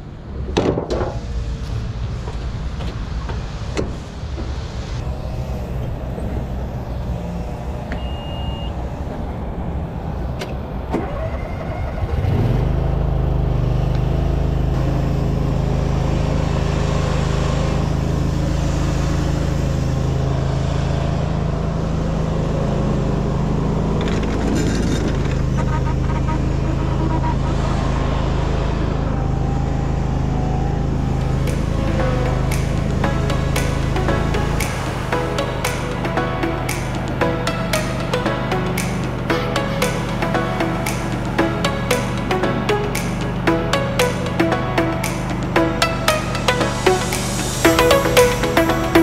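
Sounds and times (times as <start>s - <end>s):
ride-on mower engine running: 5.0s - 47.7s.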